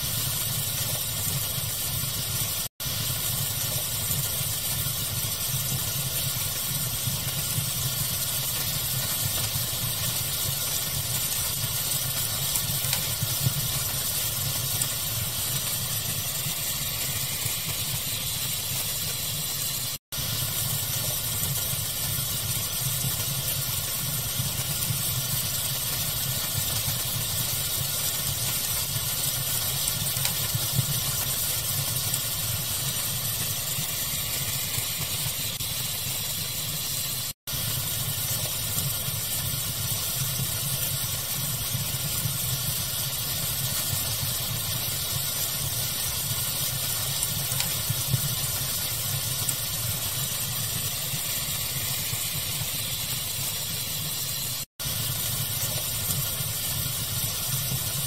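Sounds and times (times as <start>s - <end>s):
fire crackles and pops: 0.0s - 58.0s
steady even hiss: 0.0s - 58.0s.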